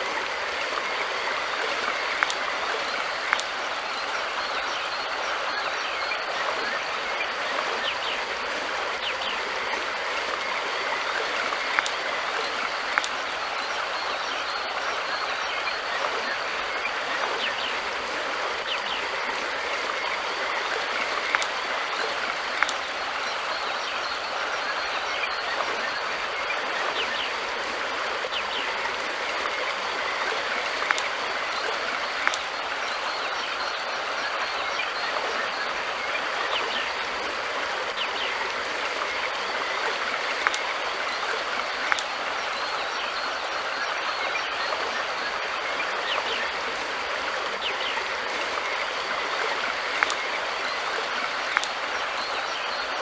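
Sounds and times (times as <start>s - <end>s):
sharp clicks and splashes: 0.0s - 52.8s
river water flowing: 0.0s - 53.0s.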